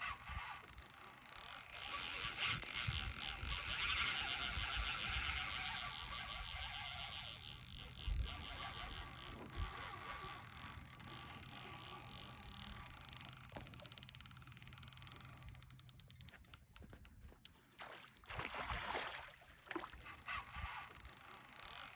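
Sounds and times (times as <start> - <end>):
fishing reel drag clicking: 0.0 - 18.3, 19.5 - 21.9.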